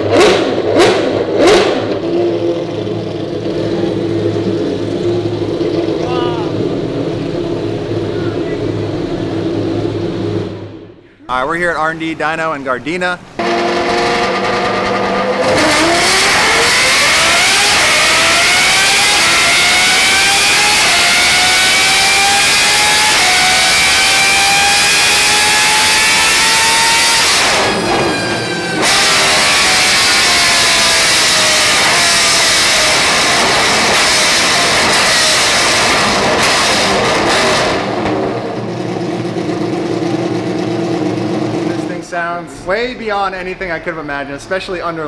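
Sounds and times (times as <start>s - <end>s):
racing engine revving under load: 0.0s - 11.0s, 13.4s - 42.0s.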